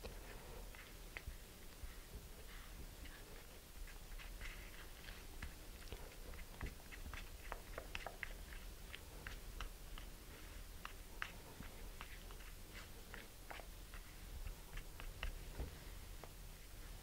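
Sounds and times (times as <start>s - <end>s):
stick mixing sticky paste: 0.0s - 16.8s.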